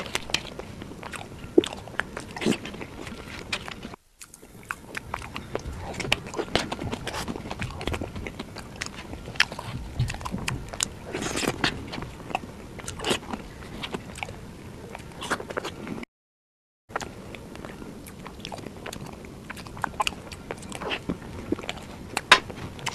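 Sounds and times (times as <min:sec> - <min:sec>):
wet chewing mouth sounds: 0:00.0 - 0:16.0, 0:16.9 - 0:22.9.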